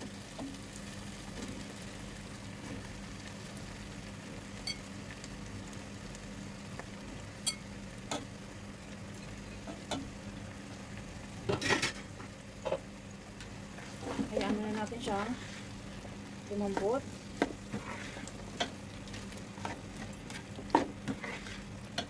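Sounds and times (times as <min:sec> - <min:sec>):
sauce sizzling in a pot: 0:00.0 - 0:22.0.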